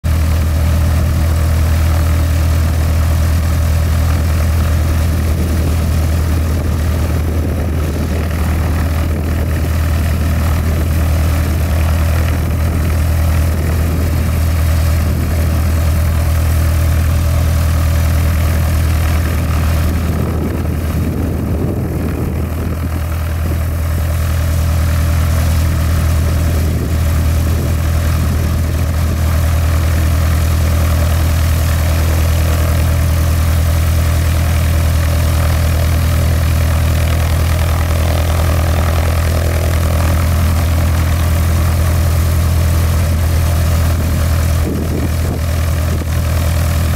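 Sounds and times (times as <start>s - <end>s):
propeller plane engine idling: 0.0s - 46.9s.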